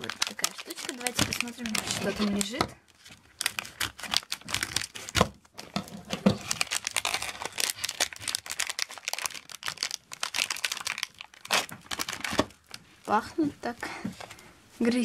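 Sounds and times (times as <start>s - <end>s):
scissors cutting plastic pouch: 0.0s - 2.6s, 3.4s - 12.8s
plastic pouch crinkling: 0.0s - 14.4s.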